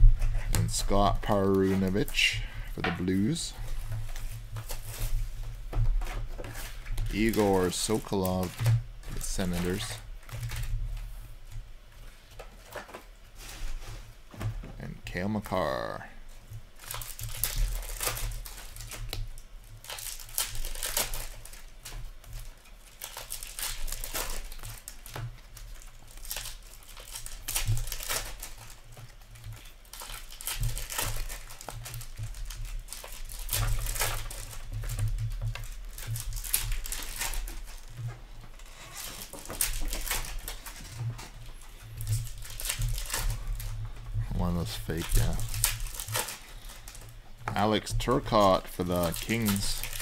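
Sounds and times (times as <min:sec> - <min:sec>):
cards rustling and clicking: 0:00.1 - 0:14.2, 0:15.2 - 0:50.0.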